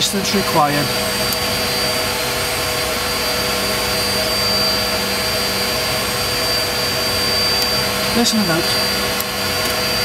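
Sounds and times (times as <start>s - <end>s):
high-pitched whine: 0.0s - 10.0s.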